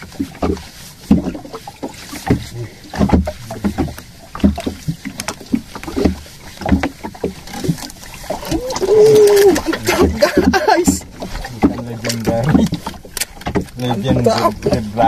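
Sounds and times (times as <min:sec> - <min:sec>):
water slapping: 0:00.0 - 0:15.0.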